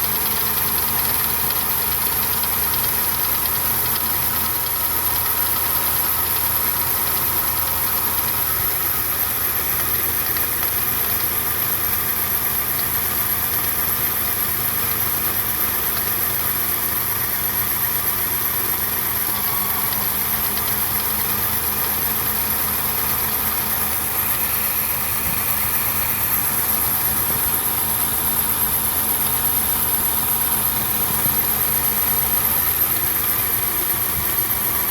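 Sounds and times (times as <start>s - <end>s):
engine idling with knock: 0.0s - 34.9s.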